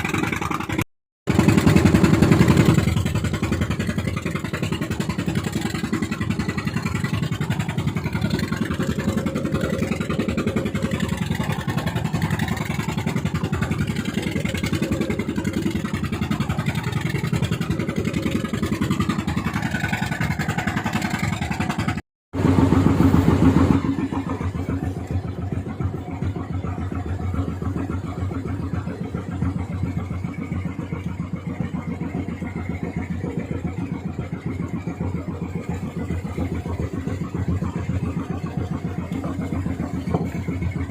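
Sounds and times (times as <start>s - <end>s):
boat engine at full throttle: 0.0s - 40.9s.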